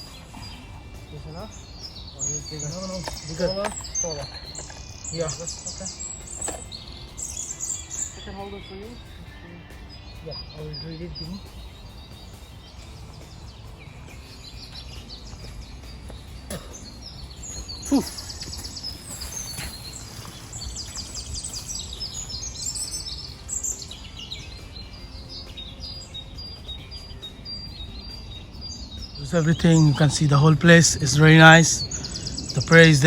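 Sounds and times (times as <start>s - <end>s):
small birds singing and calling: 0.0s - 33.0s.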